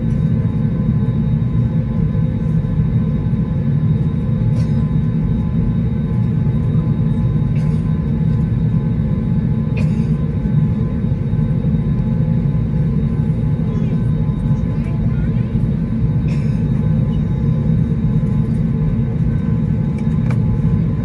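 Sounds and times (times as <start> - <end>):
aircraft engines rumbling: 0.0 - 21.0.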